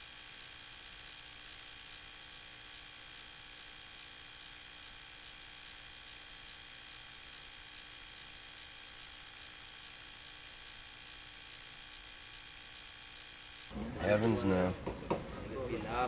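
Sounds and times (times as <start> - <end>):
faint high whining tones: 0.0 - 13.7
electronic hiss and buzz: 0.0 - 13.8.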